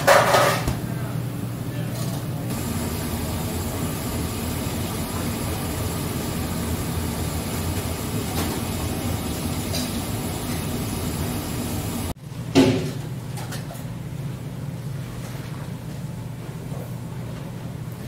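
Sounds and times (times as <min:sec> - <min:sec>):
water at a rolling boil: 0:00.0 - 0:18.0.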